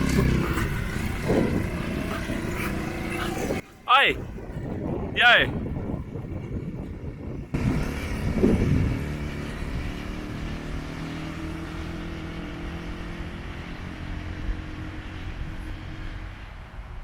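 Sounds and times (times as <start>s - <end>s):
small petrol engine revving and idling: 0.0s - 3.8s, 6.6s - 16.6s.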